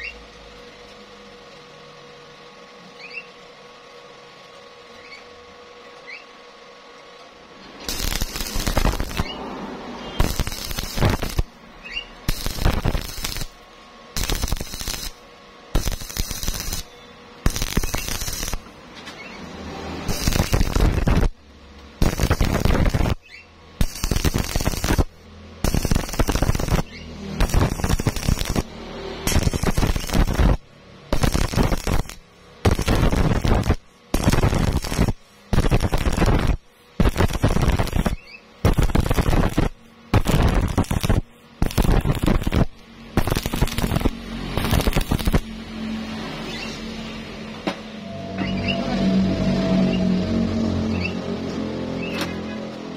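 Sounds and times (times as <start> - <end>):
welding arc crackling: 7.5 - 52.6.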